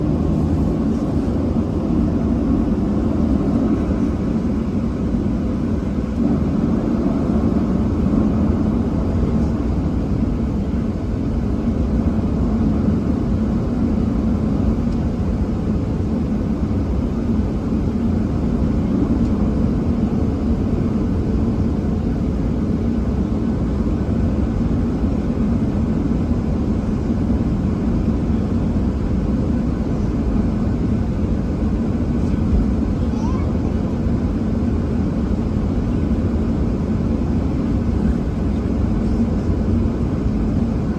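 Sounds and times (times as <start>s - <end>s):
jet engines idling in cabin: 0.0s - 40.9s.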